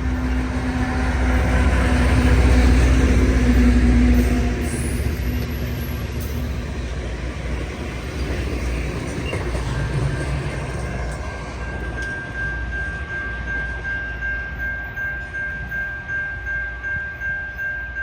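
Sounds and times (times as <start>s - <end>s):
train rumbling along track: 0.0s - 18.0s.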